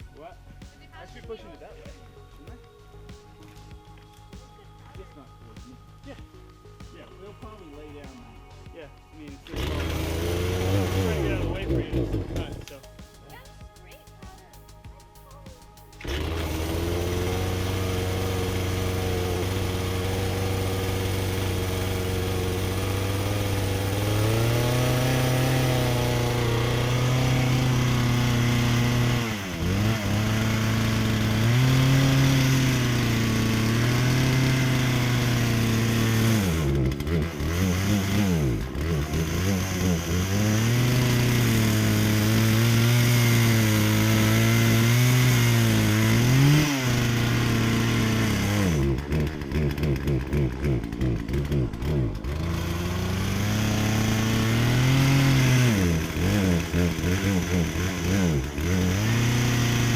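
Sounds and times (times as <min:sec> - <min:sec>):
chainsaw running and revving: 0:09.3 - 0:13.4, 0:16.0 - 0:59.9.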